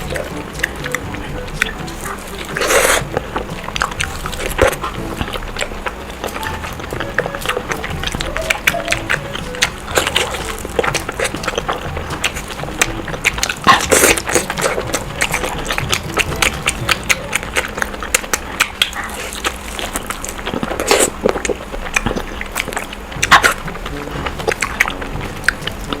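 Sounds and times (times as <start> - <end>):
lip smacks and mouth clicks: 0.0 - 26.0
wet chewing: 0.0 - 26.0.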